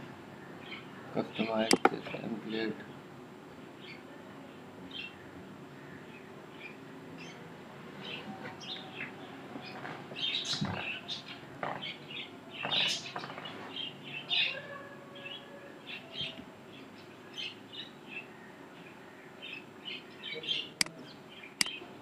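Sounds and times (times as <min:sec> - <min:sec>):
small birds chirping: 0:00.3 - 0:21.9.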